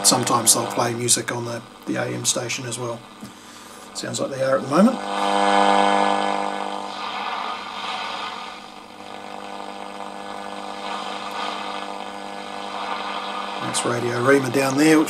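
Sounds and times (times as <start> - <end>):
radio droning tone: 0.0 - 15.0
radio static hiss: 0.0 - 15.0.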